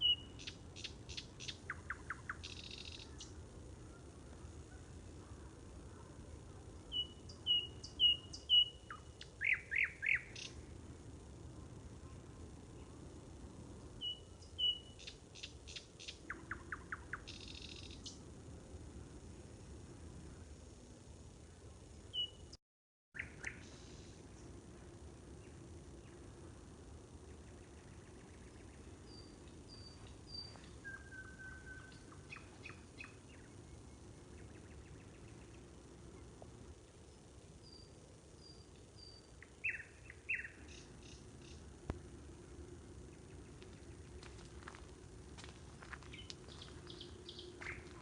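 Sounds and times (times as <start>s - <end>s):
songbird singing: 0.0s - 18.3s, 21.7s - 22.6s, 23.2s - 48.0s
faint background noise: 0.0s - 22.6s, 23.2s - 48.0s
low background rumble: 0.0s - 22.6s, 23.2s - 48.0s.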